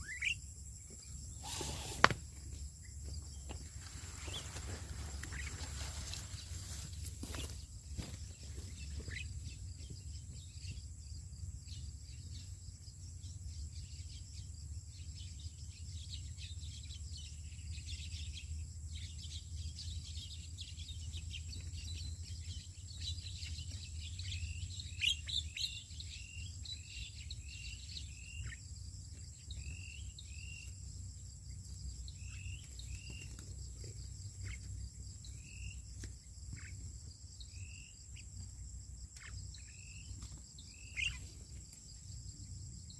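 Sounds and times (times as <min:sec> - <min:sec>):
bird chirping: 0:00.0 - 0:42.9.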